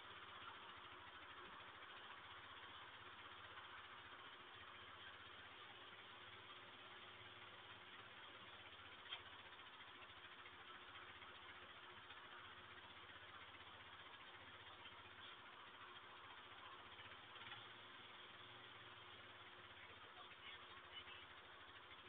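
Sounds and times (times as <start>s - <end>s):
microphone hiss and hum: 0.0s - 22.0s.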